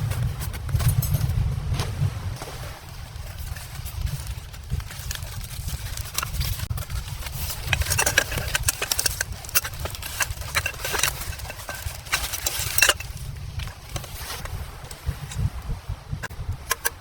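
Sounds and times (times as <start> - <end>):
sharp knocks and rustles: 0.0 - 17.0
wind buffeting microphone: 0.0 - 17.0.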